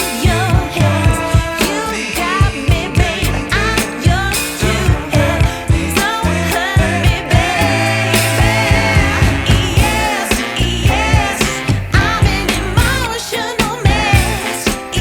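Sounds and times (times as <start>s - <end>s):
bass: 0.0s - 15.0s
man singing pop song: 0.0s - 15.0s
steady drum beat: 0.0s - 15.0s.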